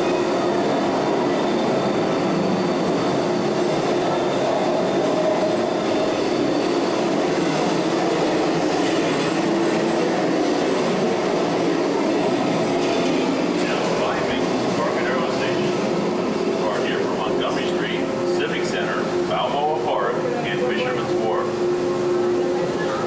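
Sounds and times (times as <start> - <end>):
ride train rumble: 0.0 - 23.0.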